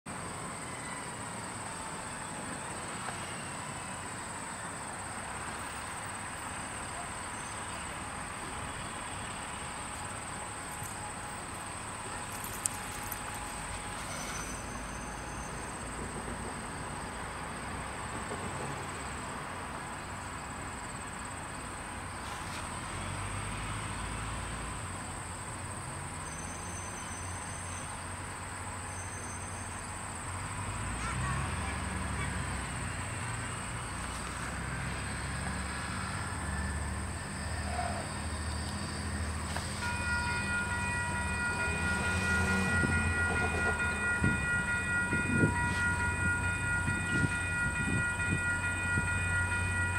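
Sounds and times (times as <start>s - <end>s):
diesel locomotive rumble: 0.1s - 49.9s
high-pitched insect chorus: 0.2s - 17.9s, 18.7s - 49.9s.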